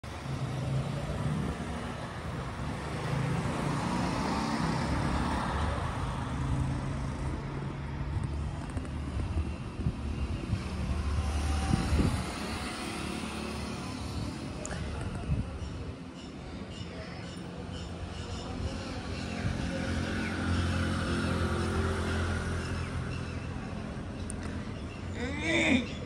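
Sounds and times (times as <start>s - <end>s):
highway traffic passing: 0.0s - 26.0s.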